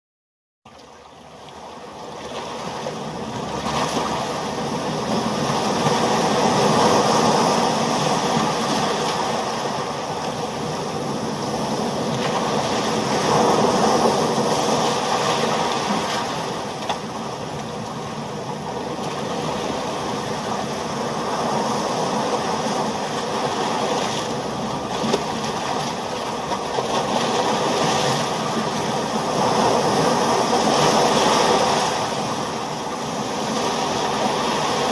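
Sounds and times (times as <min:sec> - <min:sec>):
ocean waves and surf: 0:00.7 - 0:34.9.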